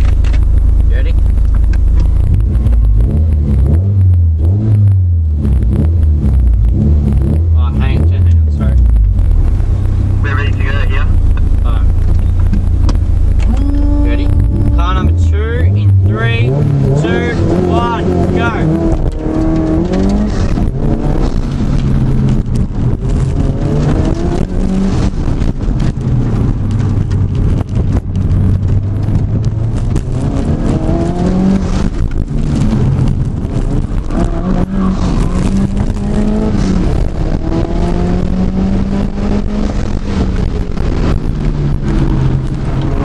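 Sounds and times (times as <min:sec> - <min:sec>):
car engine revving in cabin: 0:00.0 - 0:43.0.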